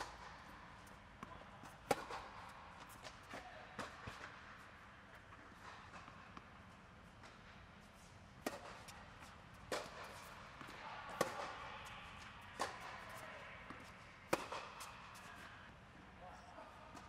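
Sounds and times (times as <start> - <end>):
tennis ball hits: 0.0 - 7.5, 8.4 - 15.5.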